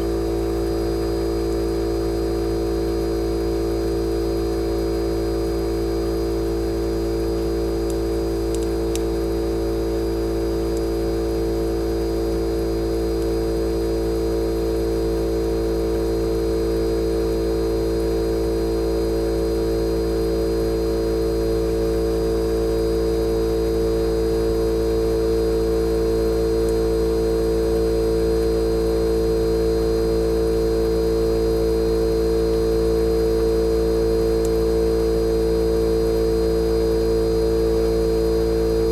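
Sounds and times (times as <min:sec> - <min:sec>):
air conditioner compressor hum: 0:00.0 - 0:38.9.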